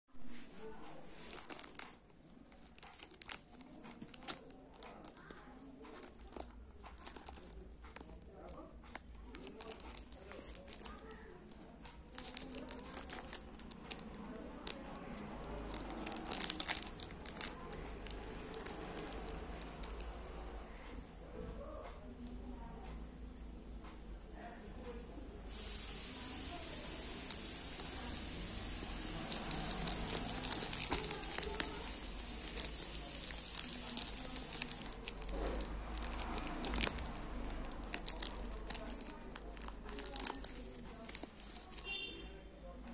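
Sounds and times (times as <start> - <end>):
plastic packet crinkling: 0.3 - 20.1, 25.5 - 42.0.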